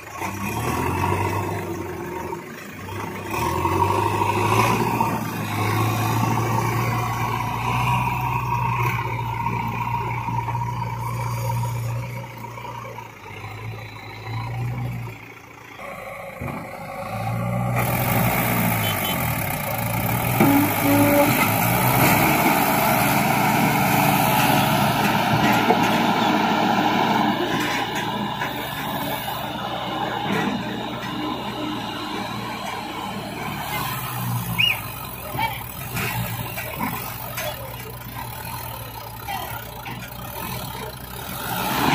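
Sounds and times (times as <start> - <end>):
diesel engine running: 0.0 - 41.9
tractor engine under heavy load: 0.0 - 41.9.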